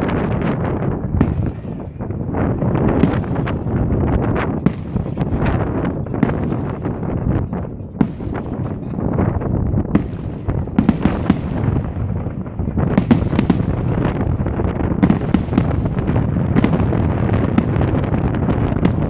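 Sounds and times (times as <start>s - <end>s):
fireworks bangs and crackles: 0.0s - 19.0s
steady low noise: 0.0s - 19.0s.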